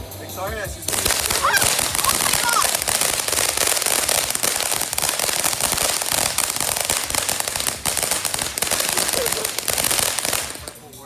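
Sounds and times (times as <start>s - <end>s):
firecrackers crackling: 0.1s - 11.0s.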